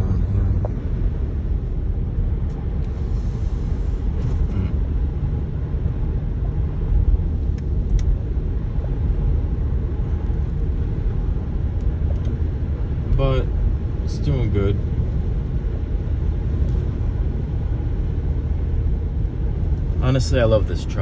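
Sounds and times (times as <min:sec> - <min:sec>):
tyre and road noise in car: 0:00.0 - 0:21.0.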